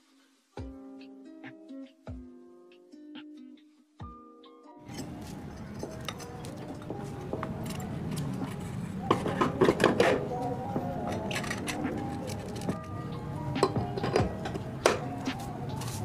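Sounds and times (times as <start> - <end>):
faint background music: 0.0 - 16.0.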